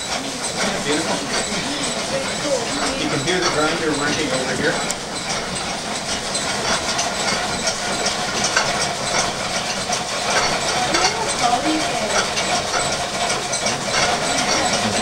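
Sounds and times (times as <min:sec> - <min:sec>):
continuous rattle of ticks: 0:00.0 - 0:15.0
grain grinder mechanical hum: 0:00.0 - 0:15.0.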